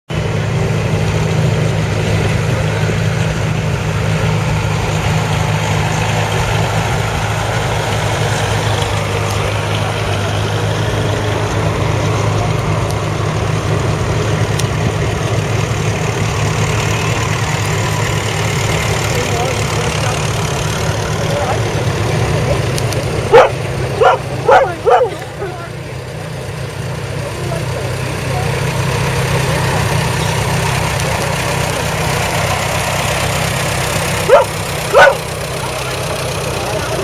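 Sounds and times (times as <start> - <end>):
tractor engine running: 0.1 - 37.0.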